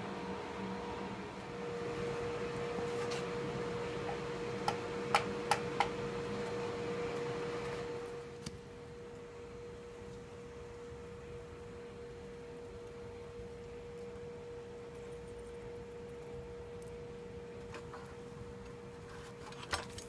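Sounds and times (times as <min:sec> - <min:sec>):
steady high hum: 0:00.0 - 0:20.0.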